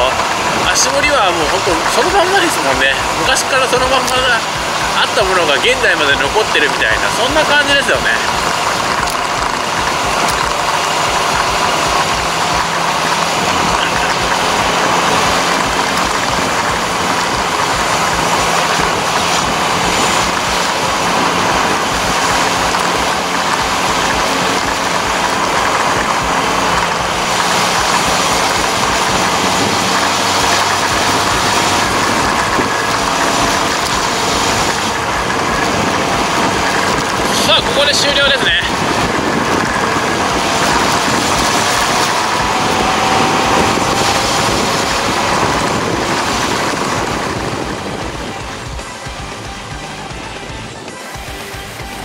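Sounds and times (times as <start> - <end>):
motorcycle engine running: 0.0 - 52.0
rush of air and road noise: 0.0 - 52.0.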